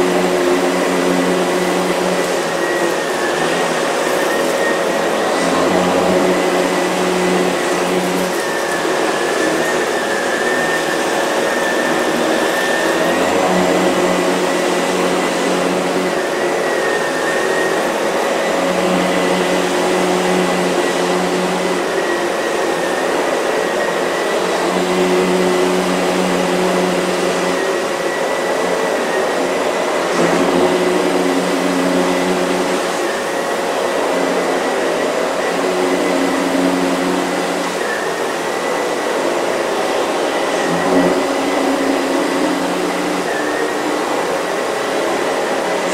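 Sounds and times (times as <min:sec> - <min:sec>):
vacuum cleaner motor whine: 0:00.0 - 0:45.9.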